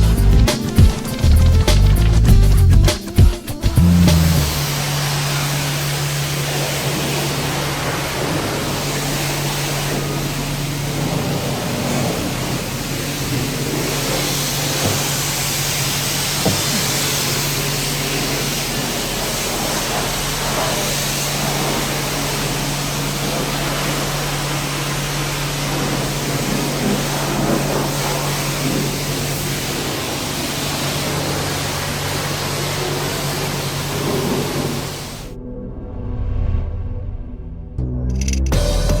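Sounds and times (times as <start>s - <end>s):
pressure washer spraying car: 0.0s - 35.3s
pump humming: 0.0s - 35.3s.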